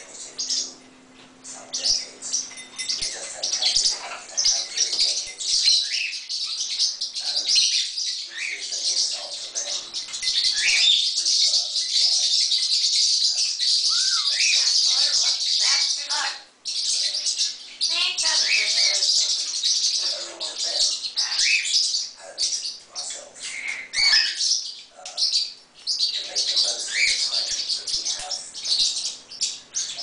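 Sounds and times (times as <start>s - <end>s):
parrots chirping and twittering: 0.0s - 30.0s.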